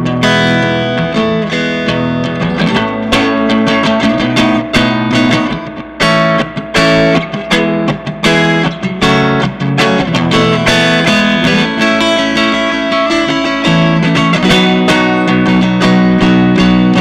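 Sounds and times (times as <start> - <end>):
electric guitar strumming chords: 0.0 - 17.0.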